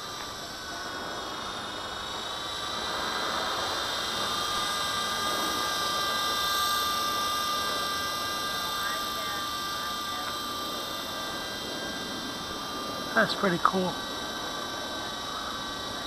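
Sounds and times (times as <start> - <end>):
high-pitched motor whine: 0.0 - 16.0
rotor blades whirring: 0.0 - 16.0.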